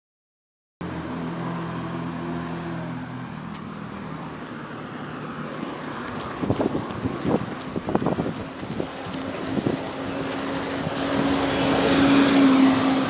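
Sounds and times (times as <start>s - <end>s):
general traffic noise: 0.8s - 13.0s
vehicle engine humming: 0.8s - 13.0s.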